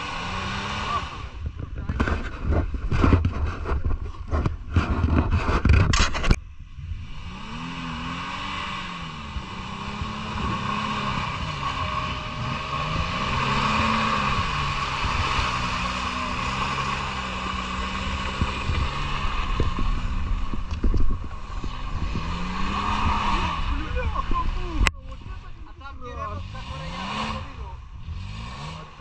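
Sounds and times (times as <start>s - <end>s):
engine revving: 0.0s - 29.0s
irregular rumbling and thumps: 1.2s - 7.2s, 9.2s - 26.8s.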